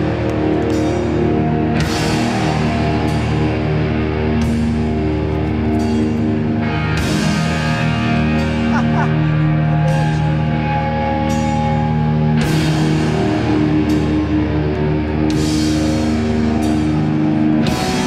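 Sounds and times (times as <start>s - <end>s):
drums: 0.0s - 18.0s
electric guitars: 0.0s - 18.0s.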